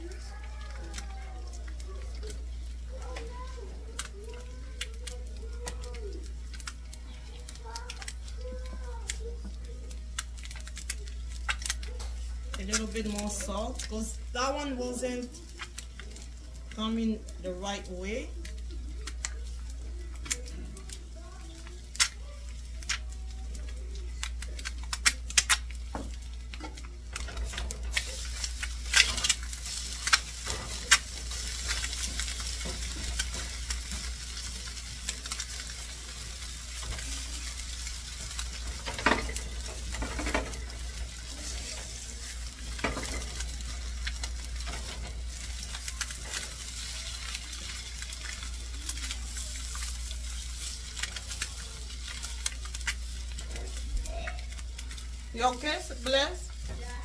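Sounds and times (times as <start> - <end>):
eggs sizzling in oil: 0.0 - 57.0.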